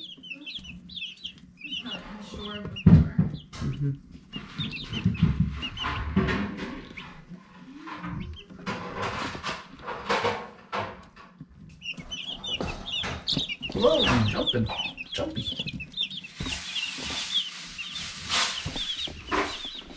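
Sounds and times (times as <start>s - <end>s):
chicks peeping: 0.0s - 19.9s
rustling and bumping in a box: 0.4s - 19.9s.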